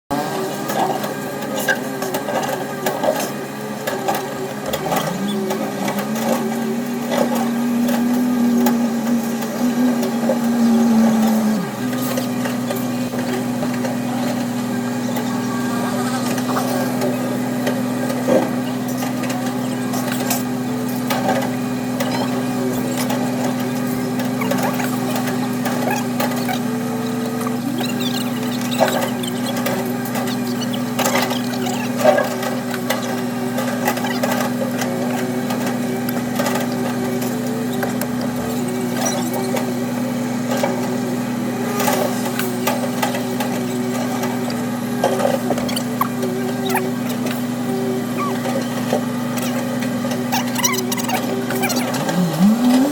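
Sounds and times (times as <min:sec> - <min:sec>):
excavator diesel engine running: 0:00.1 - 0:52.9.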